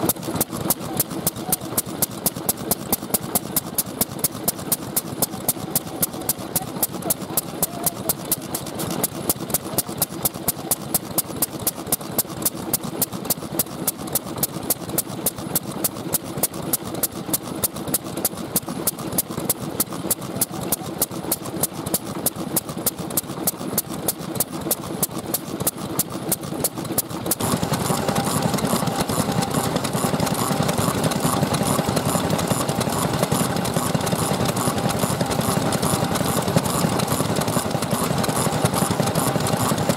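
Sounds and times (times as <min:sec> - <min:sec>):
stationary oil engine ticking: 0:00.0 - 0:39.9.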